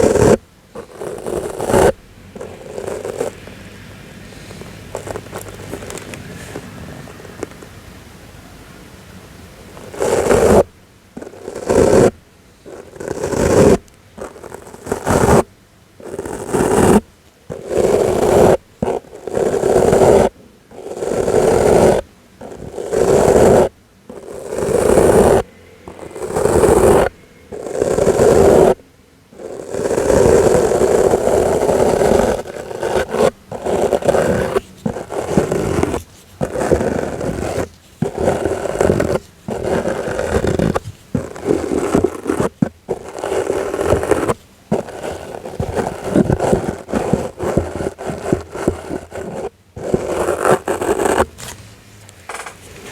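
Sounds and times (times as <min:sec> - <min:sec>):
soft brush sweeping: 0:00.0 - 0:07.8, 0:09.7 - 0:52.9.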